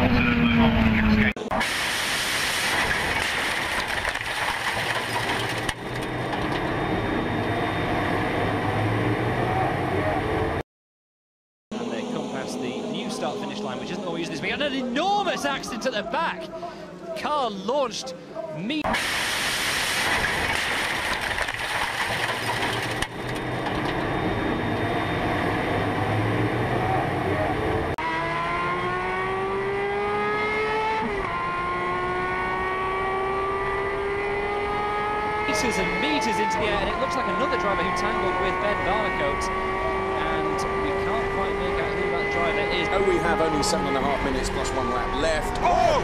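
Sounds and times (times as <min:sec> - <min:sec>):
racing car engine rush: 0:00.0 - 0:10.6, 0:11.7 - 0:17.6, 0:18.8 - 0:46.0.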